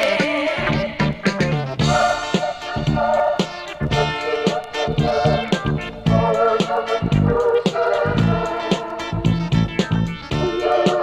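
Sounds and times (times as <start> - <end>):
pop band record playing: 0.0 - 11.0.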